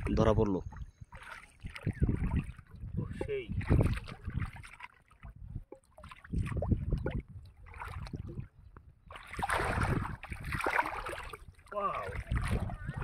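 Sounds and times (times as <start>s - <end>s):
pond water sloshing and splashing: 0.0s - 13.0s.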